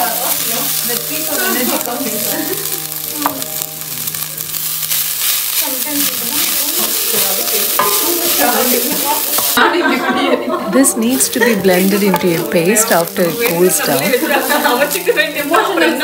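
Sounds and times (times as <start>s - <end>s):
stirring in a pan: 0.0s - 9.8s, 10.8s - 16.0s
spices sizzling in a pan: 0.0s - 16.0s.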